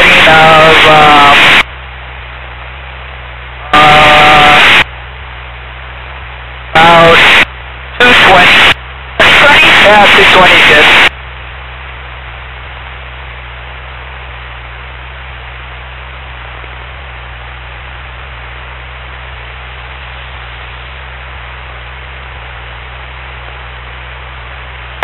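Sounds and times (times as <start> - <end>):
intercom line hiss and hum: 0.0 - 25.0.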